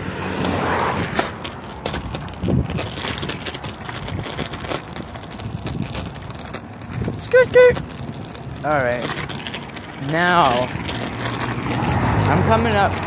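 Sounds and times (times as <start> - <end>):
scooter wheel rumble: 0.0 - 13.0
rattles and clicks: 0.2 - 13.0.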